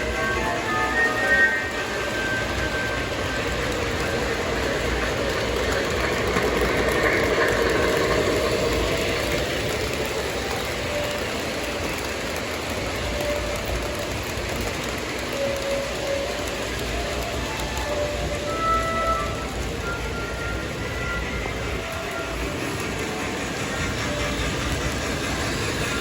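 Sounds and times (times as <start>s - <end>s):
model trains rumbling on track: 0.0s - 26.0s.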